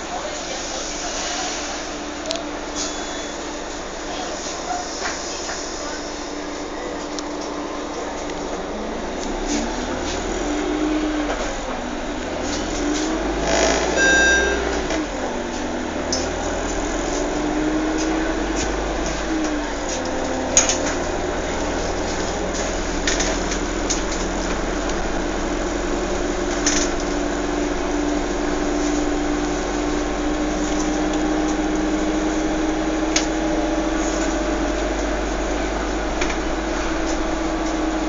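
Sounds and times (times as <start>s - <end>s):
engine-like drone: 0.0s - 38.0s.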